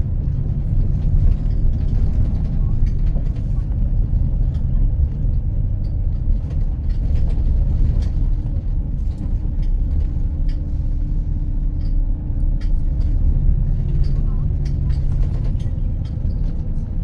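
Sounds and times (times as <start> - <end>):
bodywork rattles and ticks: 0.0 - 17.0
bus engine and road rumble: 0.0 - 17.0.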